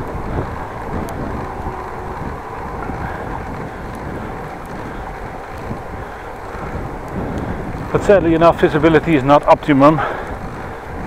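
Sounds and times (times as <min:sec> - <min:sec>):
bicycle tyres rolling on road: 0:00.0 - 0:11.0
wind rushing over microphone: 0:00.0 - 0:11.0.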